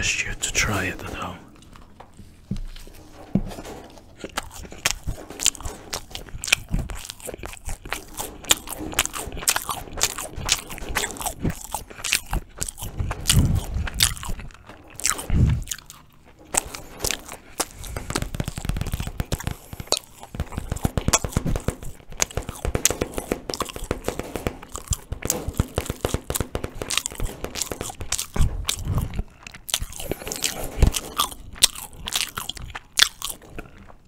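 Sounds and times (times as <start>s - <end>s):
deep thuds: 0.0s - 32.7s
chewing and biting bread: 3.6s - 34.0s.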